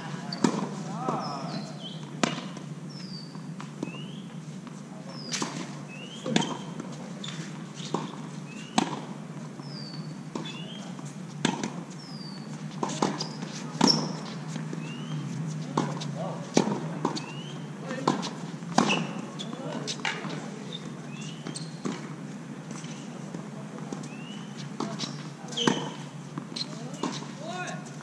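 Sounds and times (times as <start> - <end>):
tennis balls bouncing on court: 0.0 - 28.0
tennis balls struck by rackets: 0.2 - 28.0.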